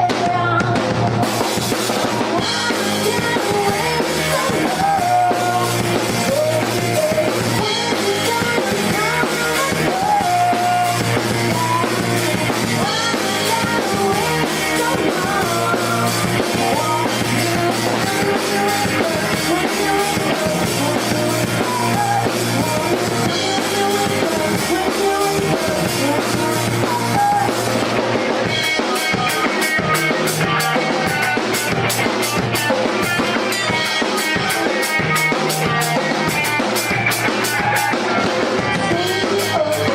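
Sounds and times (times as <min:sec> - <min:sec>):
pop-rock band playing live: 0:00.0 - 0:39.9.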